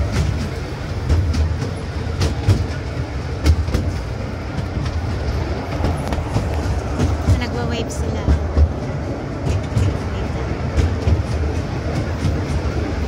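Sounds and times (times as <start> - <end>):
train rumble: 0.0 - 13.0
wheels clacking over rail joints: 0.0 - 13.0.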